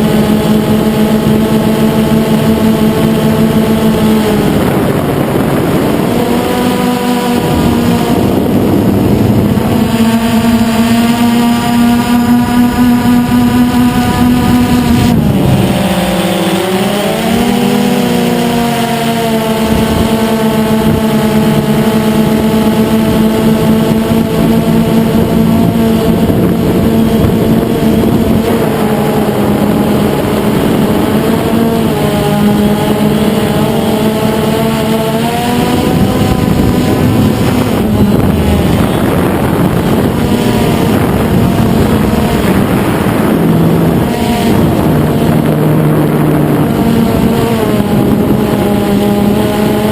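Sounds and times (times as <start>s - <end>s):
quadcopter propellers droning: 0.0s - 49.9s.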